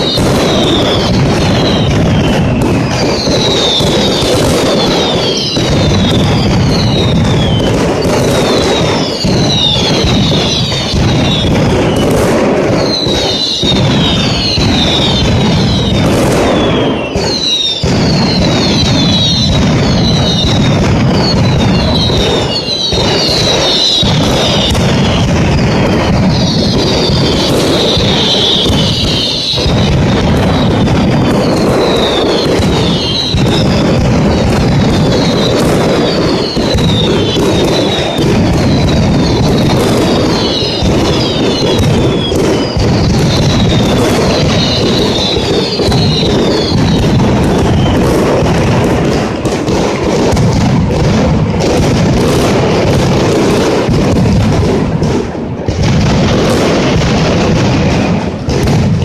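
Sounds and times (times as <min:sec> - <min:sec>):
firecrackers barrage of bangs: 0:00.0 - 0:59.0
whistling fireworks shrieking: 0:00.0 - 0:59.0.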